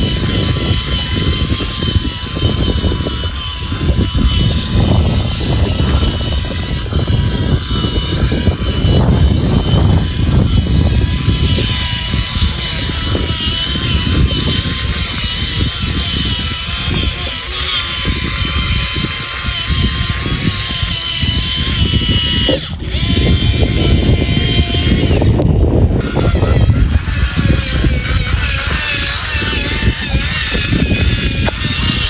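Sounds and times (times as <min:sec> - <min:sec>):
electric motor whine: 0:00.0 - 0:32.0.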